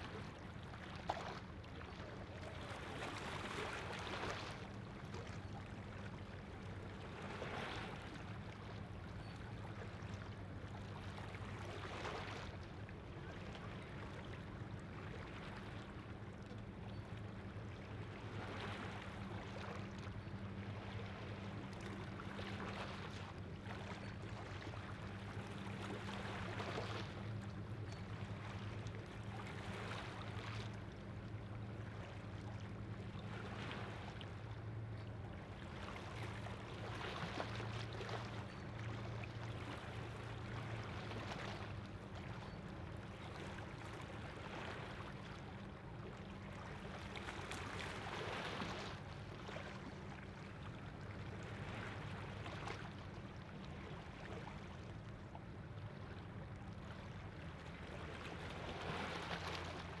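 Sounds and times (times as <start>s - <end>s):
water lapping against shore: 0.0s - 60.0s.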